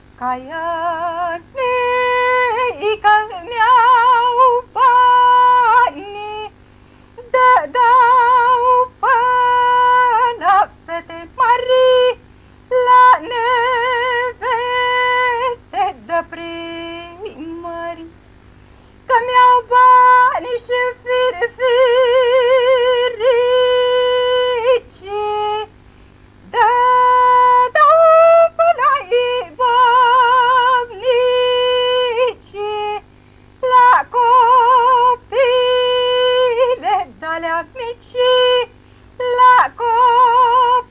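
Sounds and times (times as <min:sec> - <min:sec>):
woman singing folk song: 0:00.0 - 0:18.2, 0:19.0 - 0:25.8, 0:26.4 - 0:40.9.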